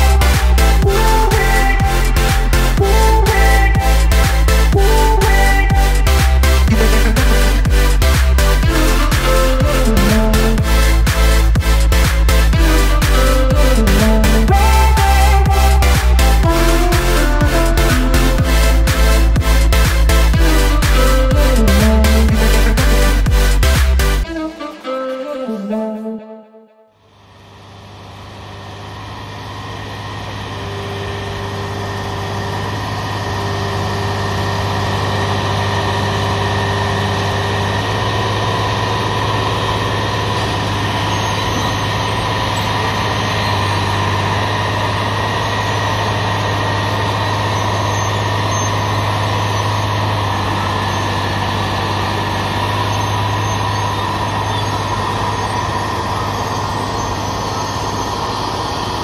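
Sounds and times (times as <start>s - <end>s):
faint engine whine: 0.0s - 25.9s, 27.0s - 59.0s
diesel engine hum: 0.0s - 26.2s, 27.0s - 59.0s.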